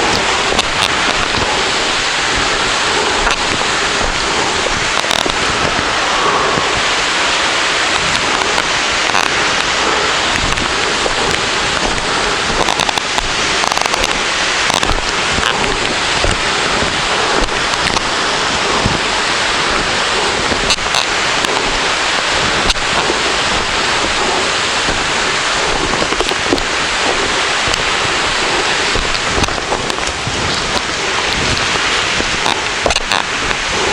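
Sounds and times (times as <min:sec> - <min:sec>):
waterfall pouring: 0:00.0 - 0:33.9.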